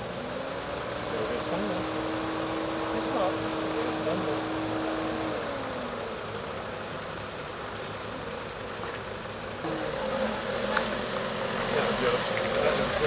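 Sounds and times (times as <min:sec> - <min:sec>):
engine pitch falling: 0:00.0 - 0:13.0
vehicles driving through floodwater: 0:00.0 - 0:13.0.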